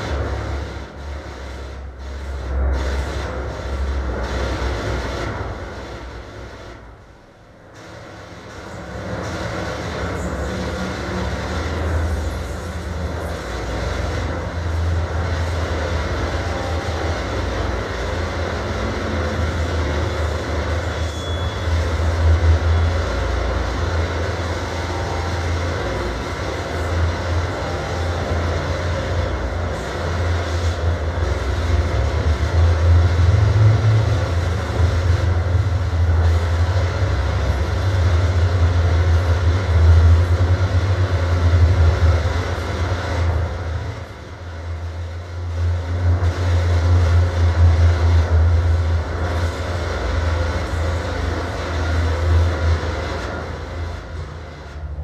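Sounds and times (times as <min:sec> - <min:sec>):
deep rumbling drone: 0:00.0 - 0:55.0.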